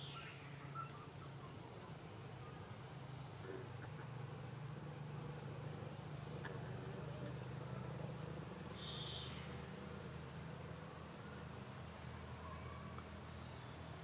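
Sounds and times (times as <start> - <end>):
faint low hum: 0.0 - 14.0
insects trilling: 0.0 - 14.0.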